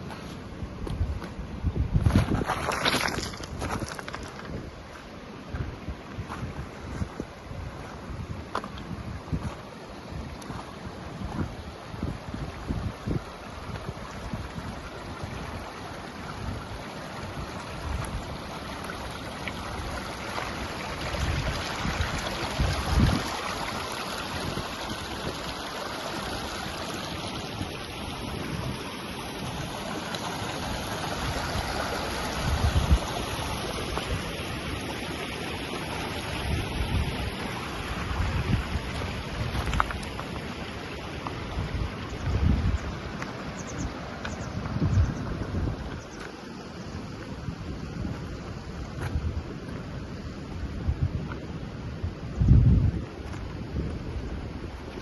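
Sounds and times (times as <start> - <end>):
wind buffeting microphone: 0.8 - 4.9, 5.5 - 26.8, 30.5 - 34.7, 36.4 - 40.3, 41.3 - 46.2, 47.4 - 55.0
river water rushing: 6.6 - 50.9.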